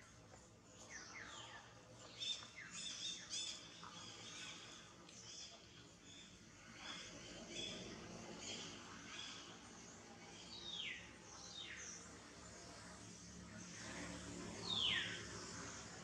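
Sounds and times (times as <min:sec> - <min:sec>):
faint bird chirping: 0:00.0 - 0:16.0
outdoor background noise: 0:00.0 - 0:16.0.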